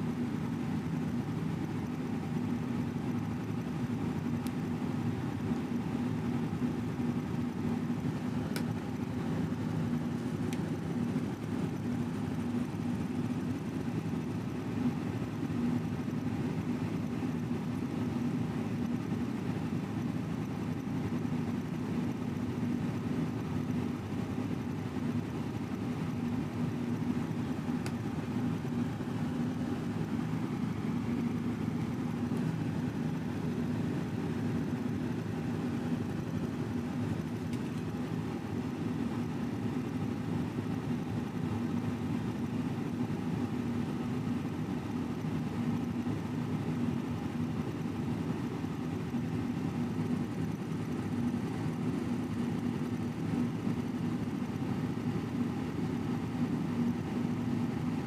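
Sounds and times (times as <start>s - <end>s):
constant hum: 0.0s - 58.0s
low mechanical rumble: 0.0s - 58.0s.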